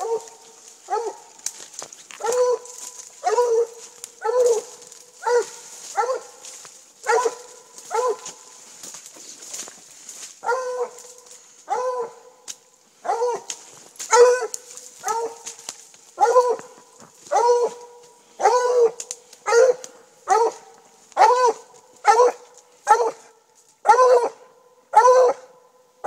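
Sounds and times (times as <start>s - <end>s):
dog barking: 0.0s - 1.4s, 2.2s - 8.5s, 10.4s - 15.6s, 16.2s - 25.6s.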